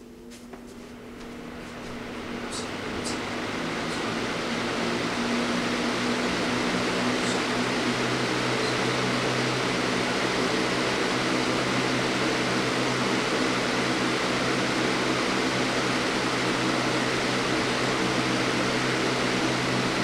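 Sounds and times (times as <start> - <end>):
box fan running: 0.0 - 20.0.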